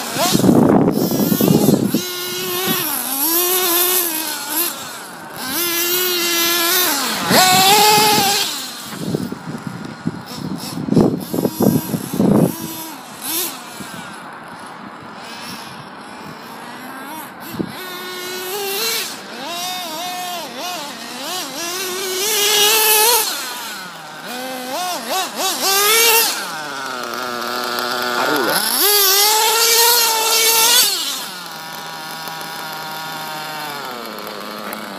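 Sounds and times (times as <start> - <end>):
rc buggy engine revving: 0.0 - 34.9.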